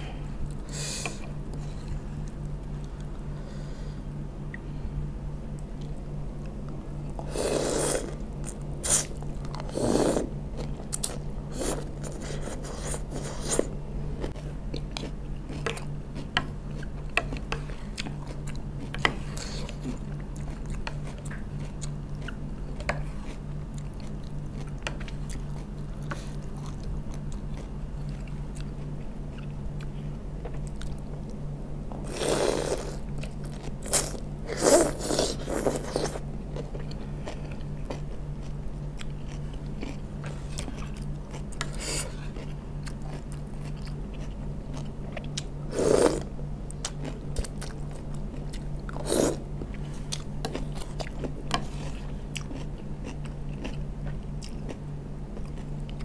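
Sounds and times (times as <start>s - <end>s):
steady low hum: 0.0s - 56.0s
chewing and crunching: 10.5s - 56.0s.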